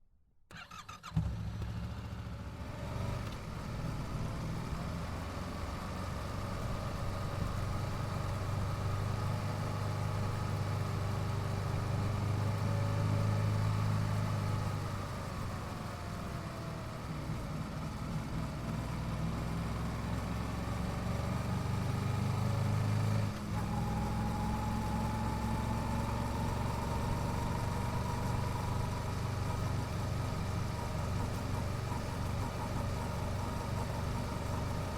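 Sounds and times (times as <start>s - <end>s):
motorcycle engine at low revs: 0.6s - 34.9s.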